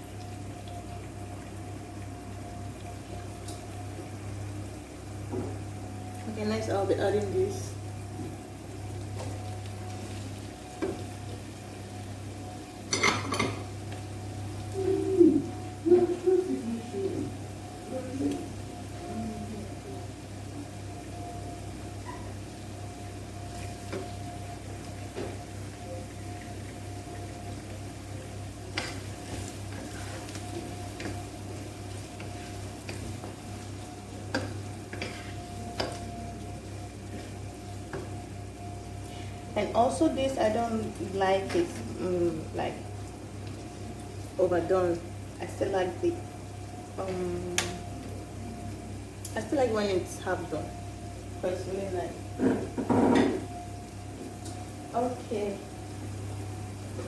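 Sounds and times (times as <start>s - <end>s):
steady hum: 0.0s - 57.0s
vegetables sizzling in a pan: 0.0s - 57.0s.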